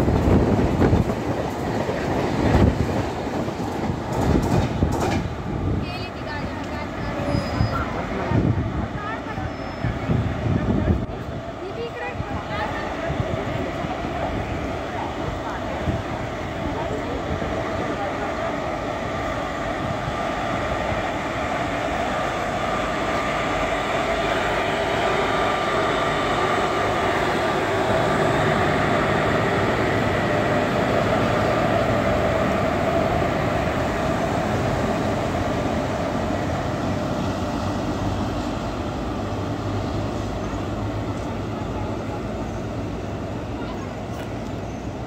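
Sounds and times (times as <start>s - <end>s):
steel wheels rumbling on track: 0.0s - 45.0s
train whine: 0.0s - 45.0s.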